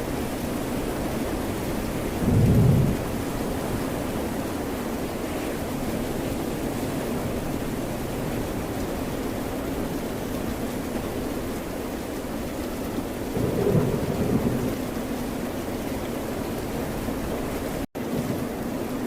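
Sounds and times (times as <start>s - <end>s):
rain: 0.0s - 19.0s.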